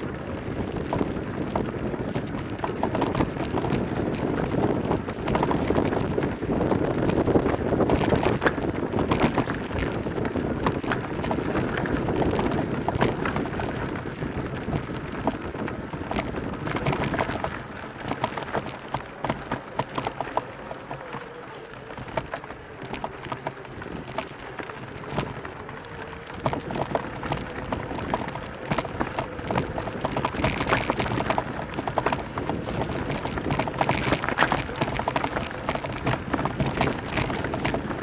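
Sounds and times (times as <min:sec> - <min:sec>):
bike knocks and rattles: 0:00.0 - 0:38.0
bike tyres crunching over stones: 0:00.0 - 0:38.0
wind on microphone: 0:00.0 - 0:38.0.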